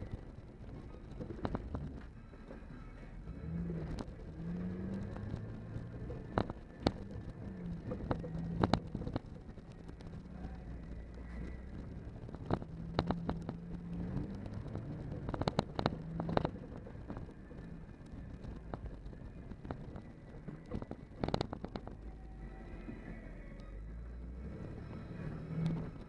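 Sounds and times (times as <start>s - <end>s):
body and interior rattling: 0.0s - 23.7s
vehicle engine droning low: 0.0s - 26.0s.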